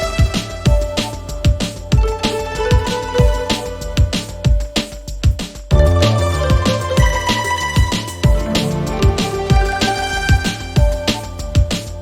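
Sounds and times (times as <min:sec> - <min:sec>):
electronic music with drum beat: 0:00.0 - 0:12.0.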